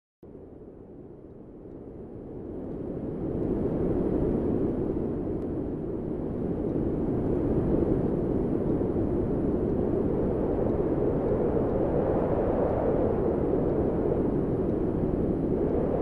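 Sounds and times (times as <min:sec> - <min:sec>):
strong wind rushing: 0:00.3 - 0:16.0.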